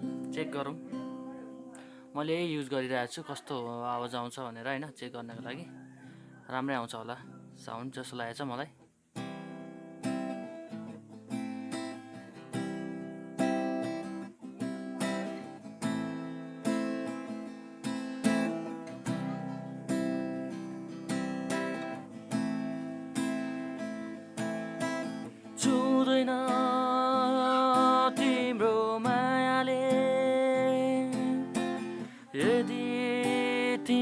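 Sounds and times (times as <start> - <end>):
acoustic guitar strumming: 0.0 - 2.5, 8.9 - 34.0.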